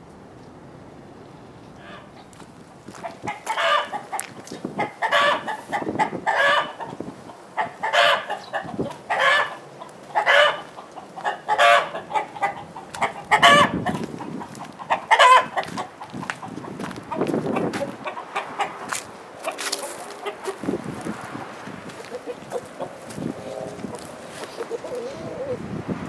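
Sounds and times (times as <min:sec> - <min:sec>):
chickens giving alarm calls: 0:01.8 - 0:25.6.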